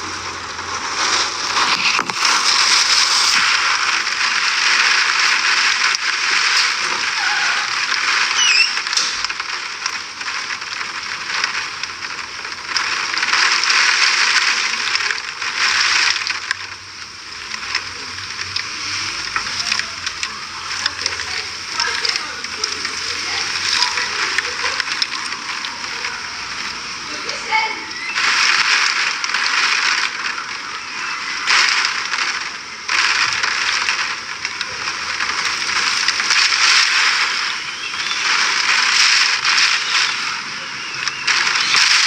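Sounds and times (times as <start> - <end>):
heavy rain and wind: 0.0 - 42.0.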